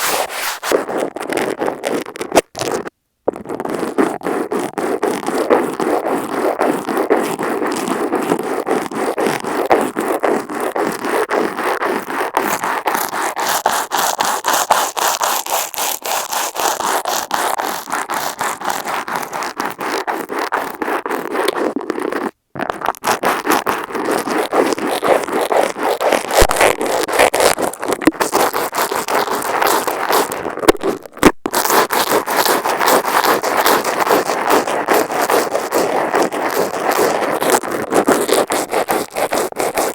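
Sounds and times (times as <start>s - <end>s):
brush scratching on microphone: 0.0s - 39.9s.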